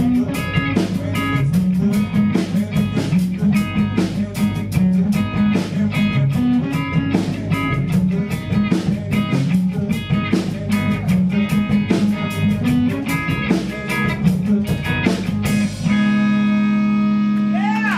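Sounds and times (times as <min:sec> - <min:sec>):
rock band playing: 0:00.0 - 0:17.9.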